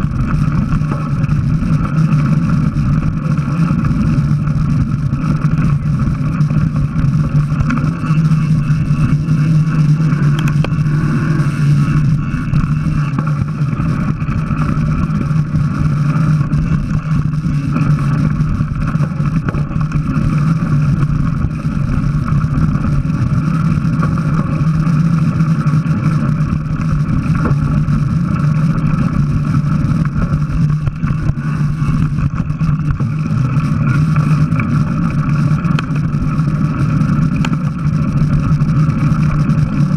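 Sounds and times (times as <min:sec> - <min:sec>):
bike tyres rolling on dirt: 0:00.0 - 0:39.9
low hum: 0:00.0 - 0:39.9
wind noise: 0:00.0 - 0:39.9.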